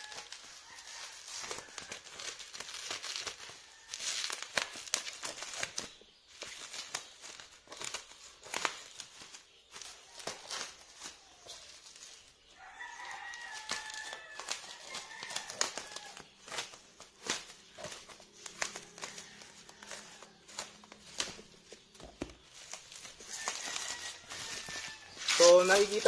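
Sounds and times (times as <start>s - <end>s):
bubble wrap crinkling and snapping: 0.0s - 26.0s.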